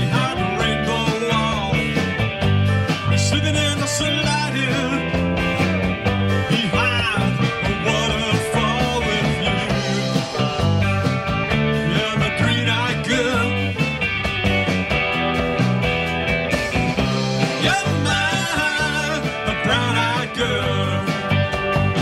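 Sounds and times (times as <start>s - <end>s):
lead guitar bending notes: 0.0s - 22.0s
live rock band playing: 0.0s - 22.0s.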